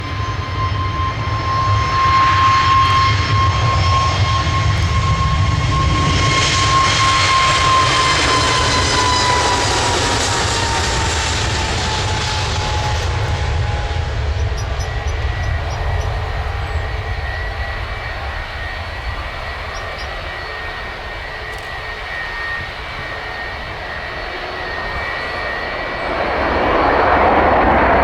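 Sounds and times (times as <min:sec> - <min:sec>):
high jet engine whine: 0:00.0 - 0:28.0
jet engines roaring: 0:00.0 - 0:28.0.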